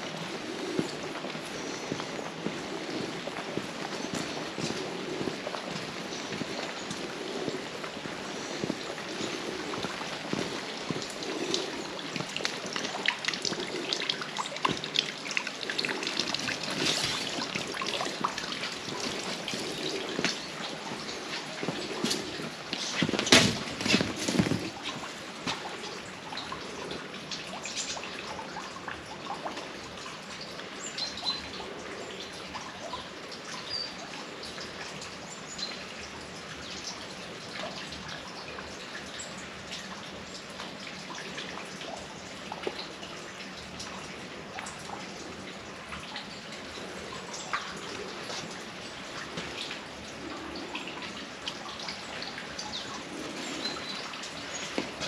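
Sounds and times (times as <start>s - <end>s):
rain falling: 0.0s - 55.0s
sharp drips: 0.0s - 55.0s.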